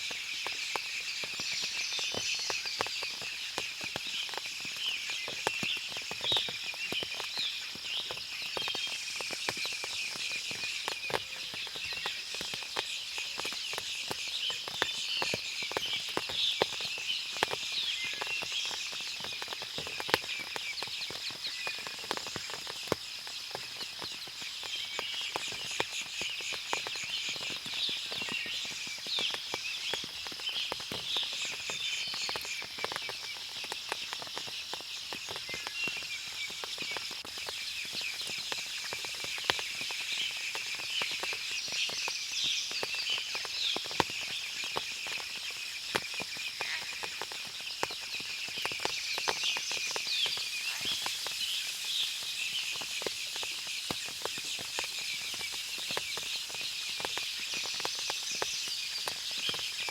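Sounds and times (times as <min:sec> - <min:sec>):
sharp water drips: 0:00.0 - 0:59.9
birds chirping: 0:00.1 - 0:59.9.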